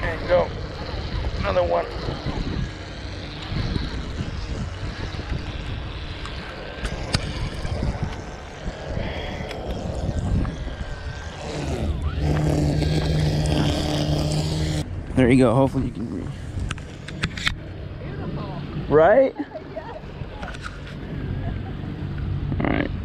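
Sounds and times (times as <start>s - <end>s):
steady engine hum: 0.0s - 23.0s
wind rumbling on microphone: 0.0s - 23.0s.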